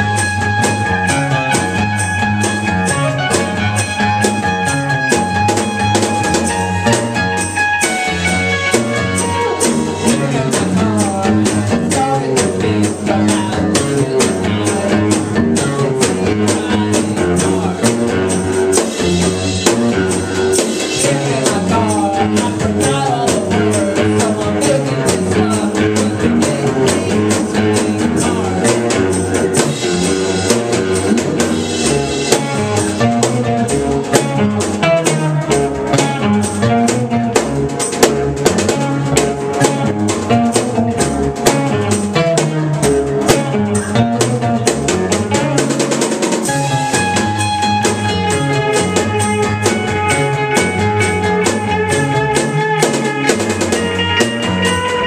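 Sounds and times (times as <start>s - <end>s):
drum kit beat: 0.0s - 55.0s
strummed guitars: 0.0s - 55.0s.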